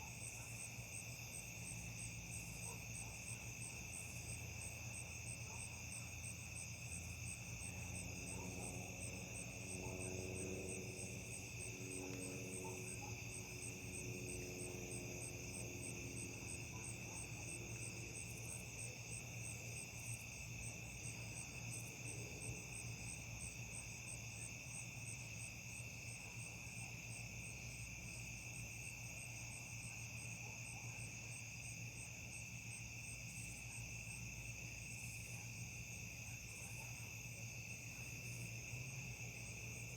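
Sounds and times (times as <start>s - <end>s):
crickets and insects trilling: 0.1s - 39.9s.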